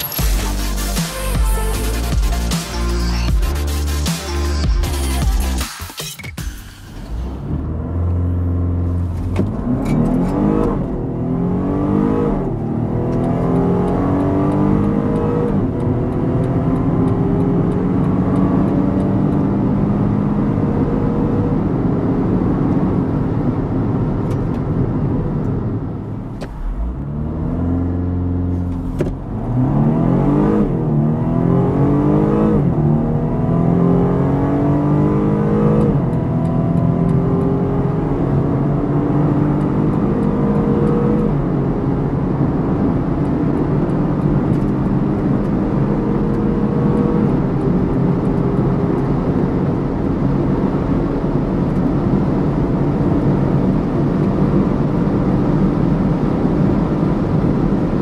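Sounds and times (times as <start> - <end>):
car engine accelerating: 6.4 - 58.0.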